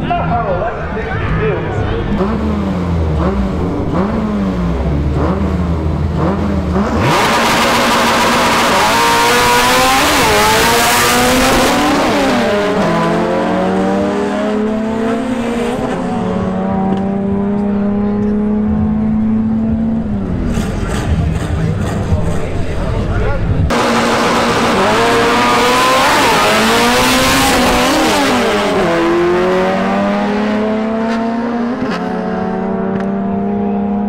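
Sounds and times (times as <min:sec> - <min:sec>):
car engines revving: 0:00.0 - 0:34.0
cars launching at full throttle: 0:02.0 - 0:34.0.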